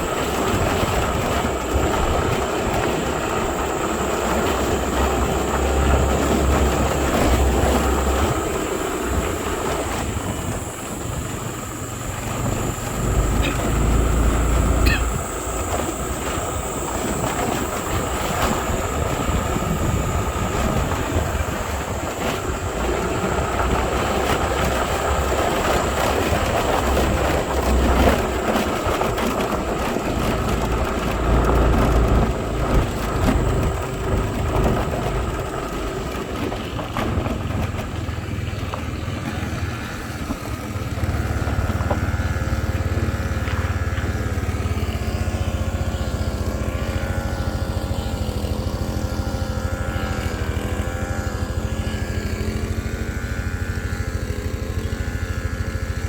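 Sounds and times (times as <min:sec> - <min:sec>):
vehicle rumbling over rough track: 0:00.0 - 0:56.0.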